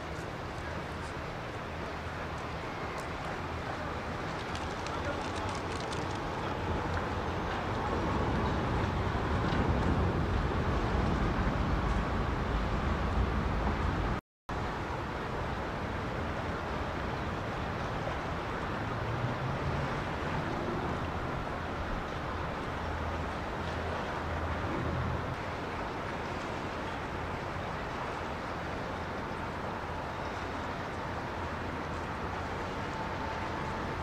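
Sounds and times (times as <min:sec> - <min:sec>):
outdoor rumble and hiss: 0:00.0 - 0:34.0.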